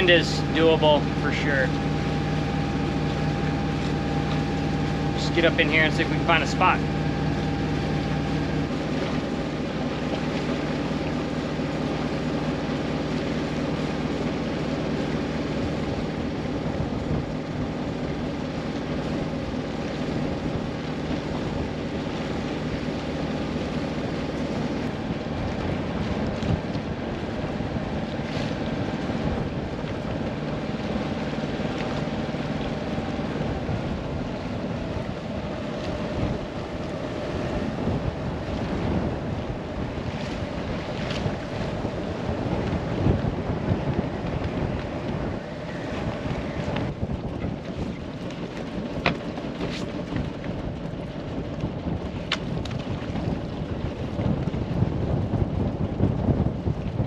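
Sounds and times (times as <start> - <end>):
boat engine running: 0.0 - 57.0
water washing along hull: 0.0 - 57.0
wind buffeting microphone: 0.0 - 57.0.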